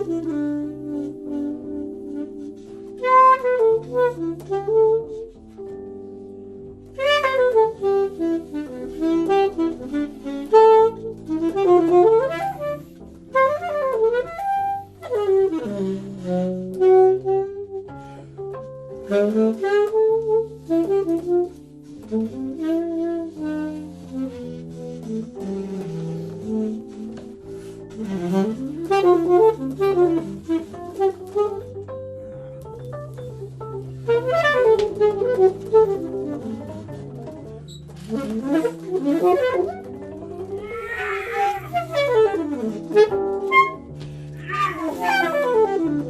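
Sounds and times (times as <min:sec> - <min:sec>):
saxophone playing jazz phrases: 0:00.0 - 0:46.0.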